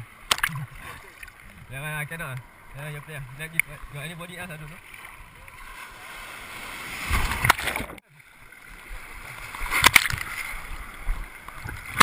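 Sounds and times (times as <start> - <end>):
sea water splashing: 0.0 - 12.0.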